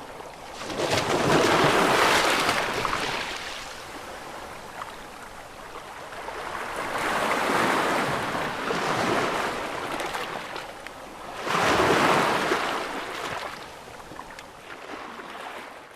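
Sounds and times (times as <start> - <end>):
ocean waves crashing: 0.0 - 10.6, 11.2 - 13.6.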